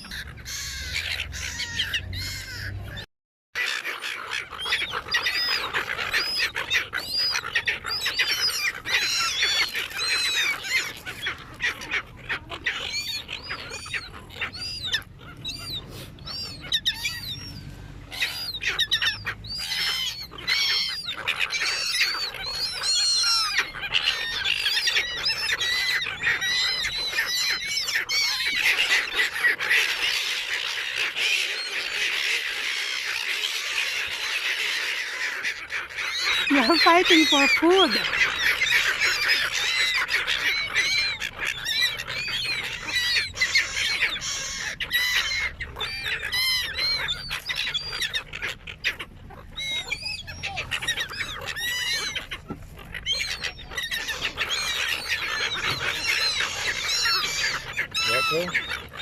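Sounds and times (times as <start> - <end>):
seagulls squawking: 0.0 - 59.0.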